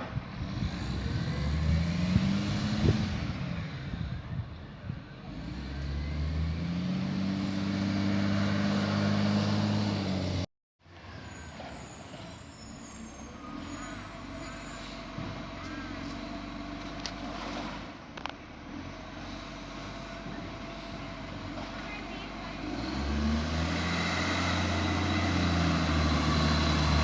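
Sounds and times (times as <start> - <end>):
garbage truck diesel engine: 0.0 - 27.0.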